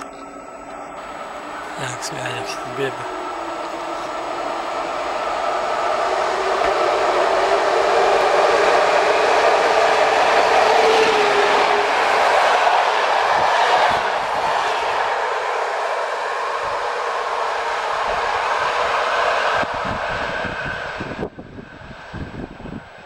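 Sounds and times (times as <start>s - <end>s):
passenger train rolling past: 0.0s - 23.0s.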